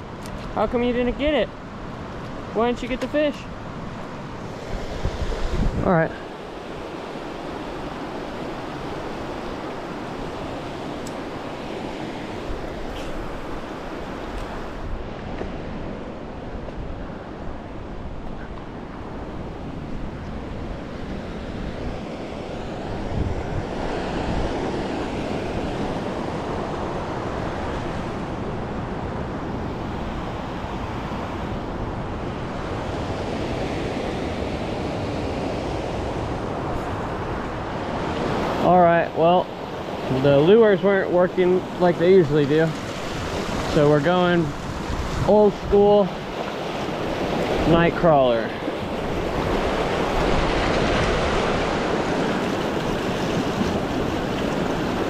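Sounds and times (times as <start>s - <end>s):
wind buffeting microphone: 3.6s - 38.6s, 39.7s - 47.7s, 48.5s - 55.0s.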